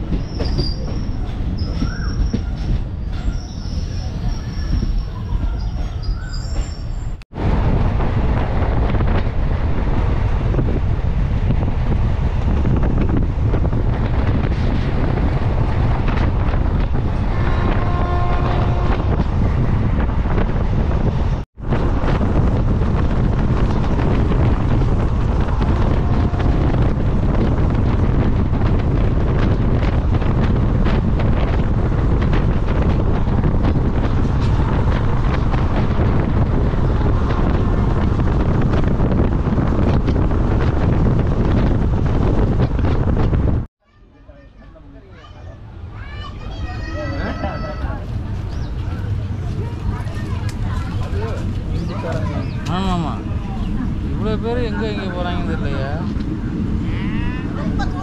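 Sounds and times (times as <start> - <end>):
wind buffeting microphone: 0.0 - 43.7, 44.6 - 58.0
train rumbling: 0.0 - 58.0.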